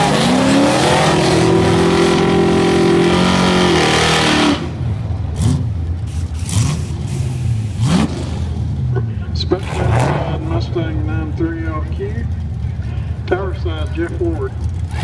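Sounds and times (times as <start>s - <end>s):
engine revving: 0.0s - 12.4s, 14.6s - 15.0s
race car engines at full throttle: 0.0s - 15.0s.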